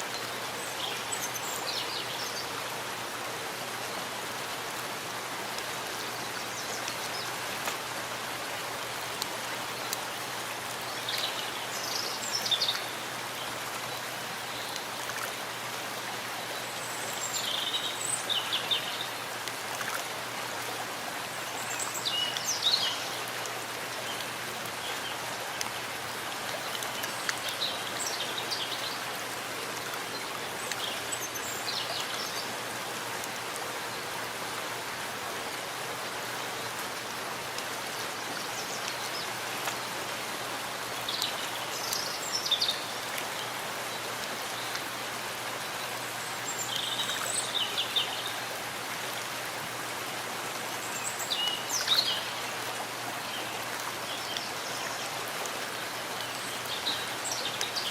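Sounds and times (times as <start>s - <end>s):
rain falling in forest: 0.0s - 57.9s.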